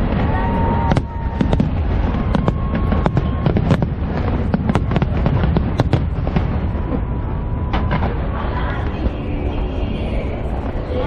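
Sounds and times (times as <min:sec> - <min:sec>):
fireworks bangs and crackles: 0:00.0 - 0:09.2
dense low rumble: 0:00.0 - 0:11.0.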